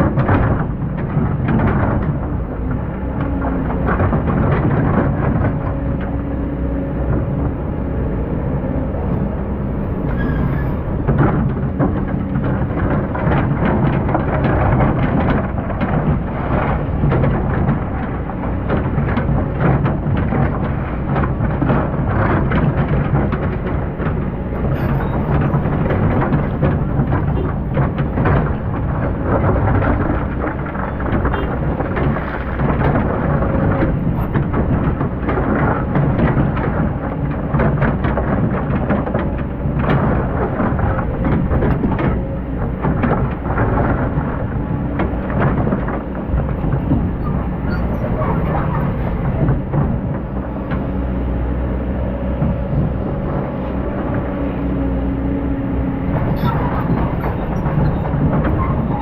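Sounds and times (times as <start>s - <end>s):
excavator engine rumble: 0.0s - 59.0s.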